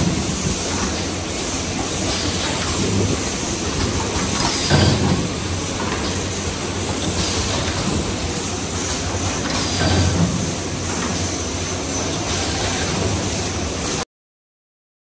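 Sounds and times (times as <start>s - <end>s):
forming machine running: 0.0s - 14.0s.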